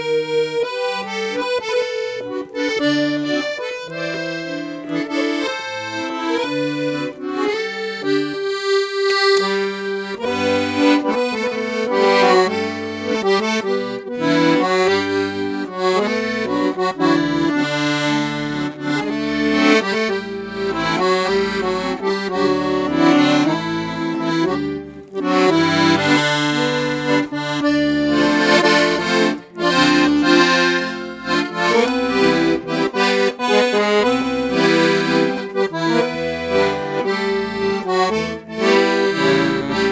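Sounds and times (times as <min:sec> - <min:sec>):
accordion bass notes: 0:00.0 - 0:39.9
accordion melody: 0:00.0 - 0:39.9.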